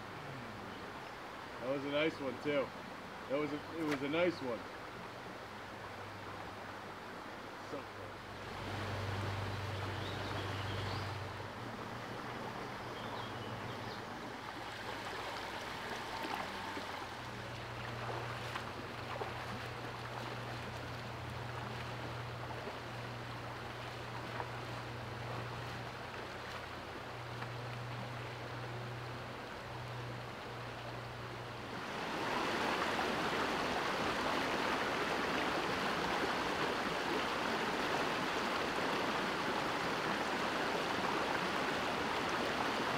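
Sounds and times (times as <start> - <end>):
stream rippling over rocks: 0.0 - 42.9.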